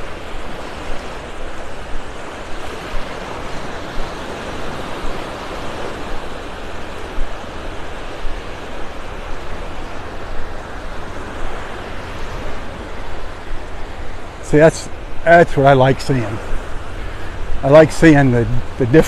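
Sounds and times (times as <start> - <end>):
waves breaking on sand: 0.0 - 19.0
wind rumbling on microphone: 0.0 - 19.0.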